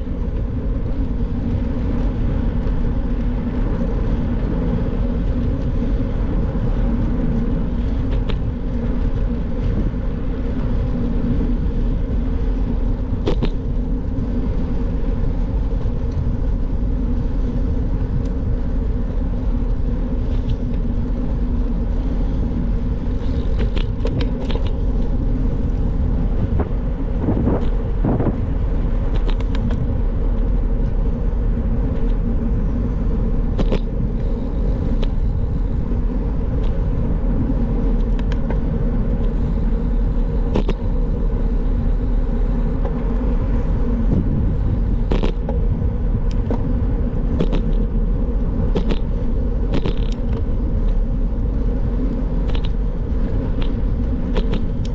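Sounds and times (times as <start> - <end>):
tyres rumbling on road: 0.0 - 54.9
wind buffeting microphone: 0.0 - 54.9.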